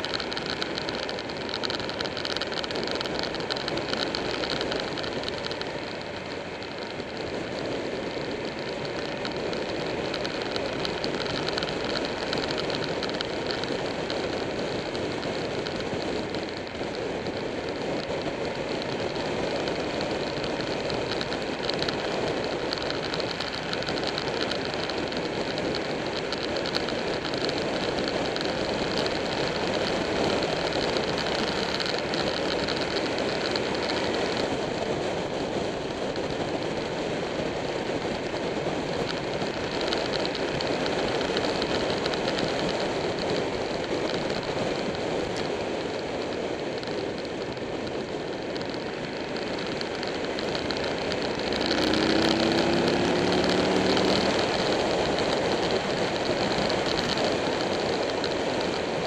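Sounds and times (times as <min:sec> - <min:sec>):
motorcycle engine drone: 0:00.0 - 0:59.0
tyre noise: 0:00.0 - 0:59.0
wind rush over microphone: 0:00.0 - 0:59.0.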